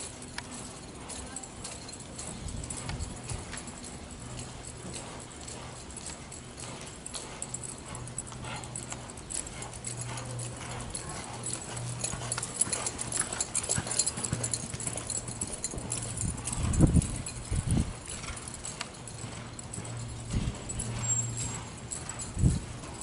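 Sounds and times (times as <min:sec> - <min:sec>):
hoofbeats on soft dirt: 0:00.0 - 0:23.0
steady low hum: 0:00.0 - 0:23.0.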